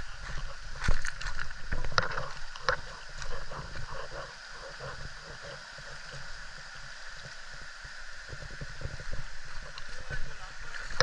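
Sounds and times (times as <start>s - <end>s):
rushing stream water: 0.0s - 11.0s.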